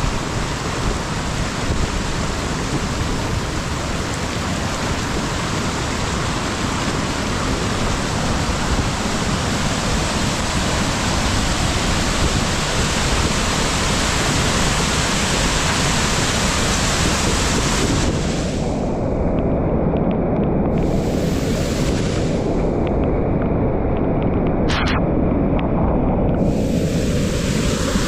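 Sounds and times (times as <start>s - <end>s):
heavy rain pouring: 0.0s - 19.1s, 20.7s - 23.0s, 26.2s - 28.0s.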